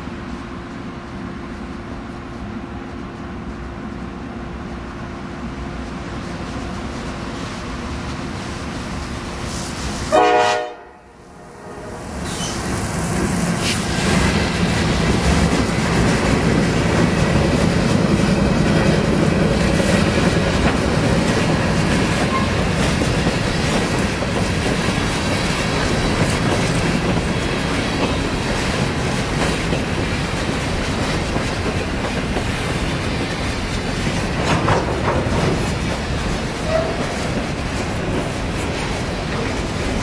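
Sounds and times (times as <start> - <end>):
train cars rumbling on rails: 0.0 - 40.0.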